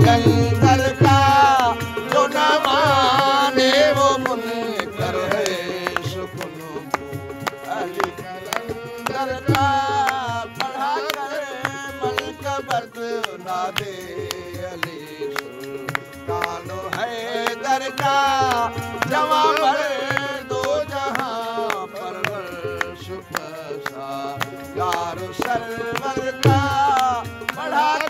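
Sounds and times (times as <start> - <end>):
harmonium chords: 0.0 - 28.0
person singing: 0.0 - 28.0.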